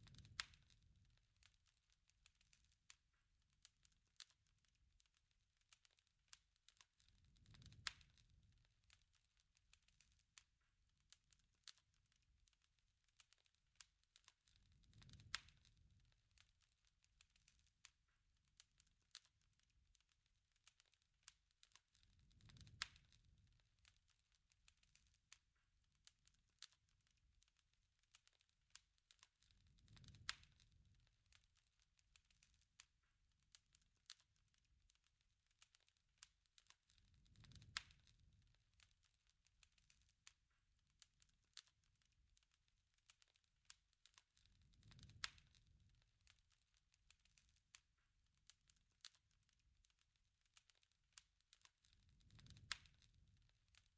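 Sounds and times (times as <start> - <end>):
campfire crackling: 0.0 - 53.9.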